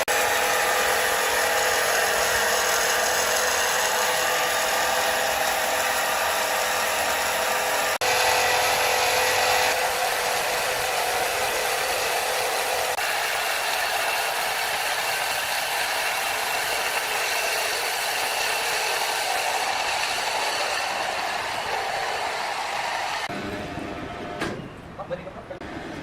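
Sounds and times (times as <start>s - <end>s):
sawmill machinery hissing: 0.0s - 24.4s.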